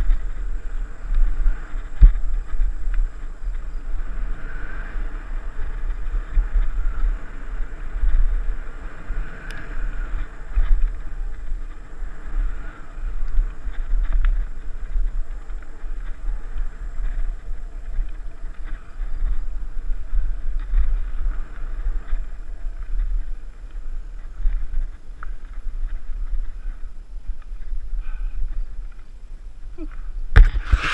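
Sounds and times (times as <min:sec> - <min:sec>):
bike clicks and rattles: 0:00.0 - 0:30.9
tyres rumbling on dirt and gravel: 0:00.0 - 0:30.9
wind buffeting microphone: 0:00.0 - 0:30.9.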